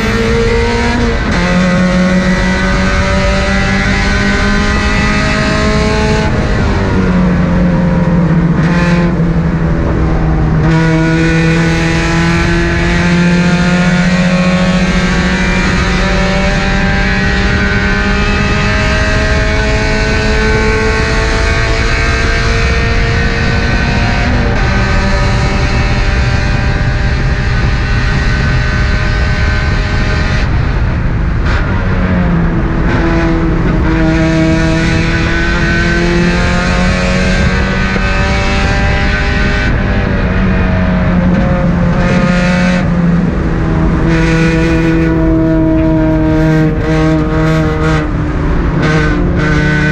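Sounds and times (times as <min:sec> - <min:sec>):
car engine pulling hard: 0:00.0 - 0:49.9
road noise: 0:00.0 - 0:49.9
wind noise: 0:00.0 - 0:49.9.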